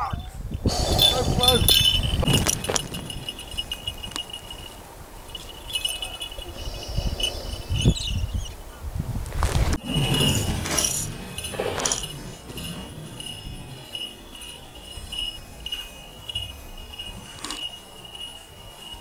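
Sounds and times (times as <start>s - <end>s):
small metal bell jingling: 0.0s - 8.5s, 9.8s - 19.0s
low rumbling: 0.4s - 19.0s
rustling: 1.0s - 19.0s.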